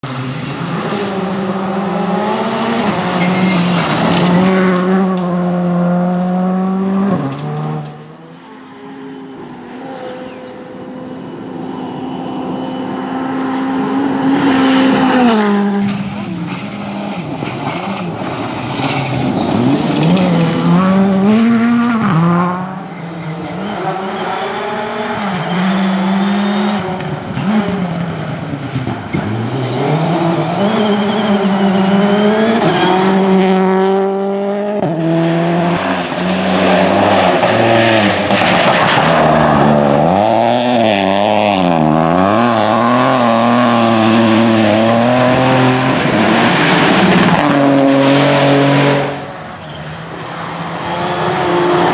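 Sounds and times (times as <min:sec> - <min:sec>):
rally car engines revving: 0:00.0 - 0:51.9.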